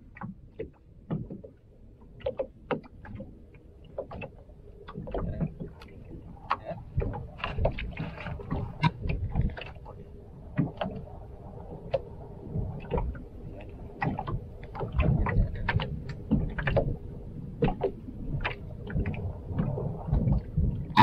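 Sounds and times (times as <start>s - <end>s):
water slapping boat hull: 0.0s - 21.0s.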